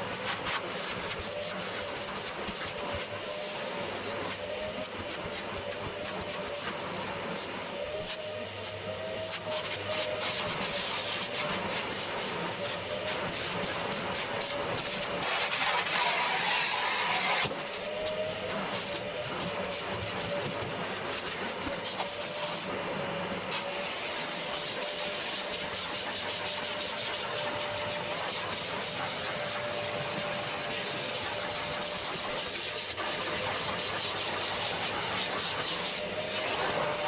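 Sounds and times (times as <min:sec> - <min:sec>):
machine motor whine and hiss: 0:00.0 - 0:37.0.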